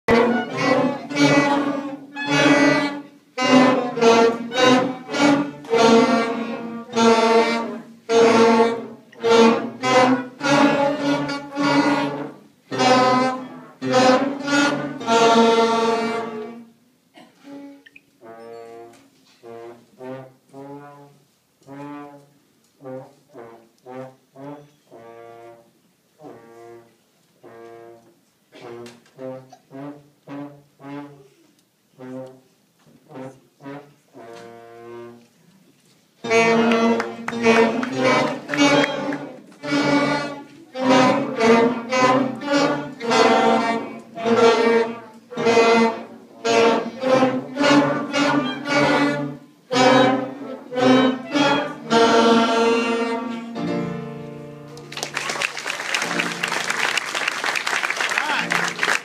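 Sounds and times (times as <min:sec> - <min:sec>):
school brass band playing: 0:00.0 - 0:35.4, 0:36.2 - 0:59.0
solo trombone notes: 0:00.1 - 0:35.2, 0:36.2 - 0:54.7.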